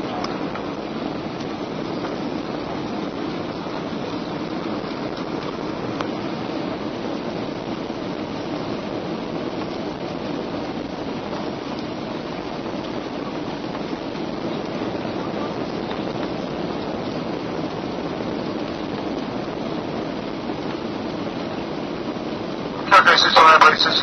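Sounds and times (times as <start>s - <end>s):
airplane cabin engine and airflow noise: 0.0s - 24.0s.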